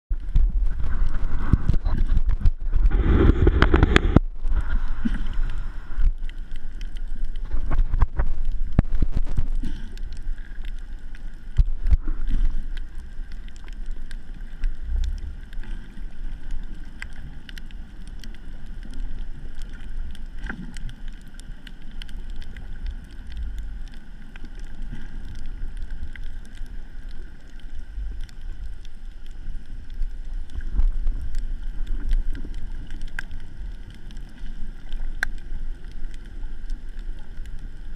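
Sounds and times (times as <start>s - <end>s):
muffled underwater rumble: 0.1s - 37.9s.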